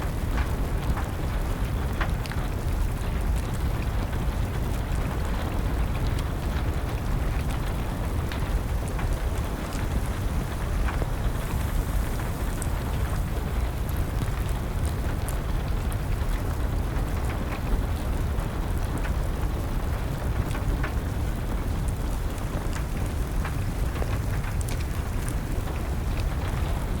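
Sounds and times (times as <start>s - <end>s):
fire crackling and popping: 0.0s - 27.0s
steady rain: 0.0s - 27.0s.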